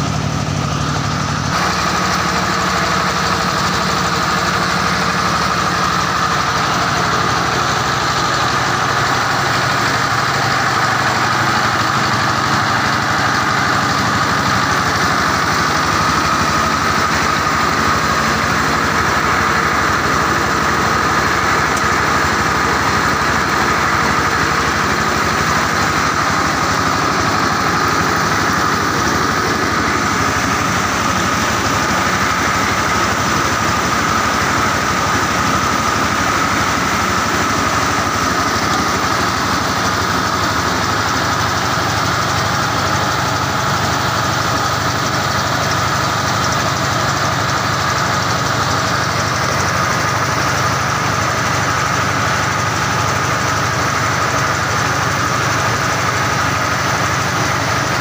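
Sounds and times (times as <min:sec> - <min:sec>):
steady high whine: 0:00.0 - 0:56.0
rice huller engine hum: 0:00.0 - 0:58.0
rushing of grain: 0:00.0 - 0:58.0.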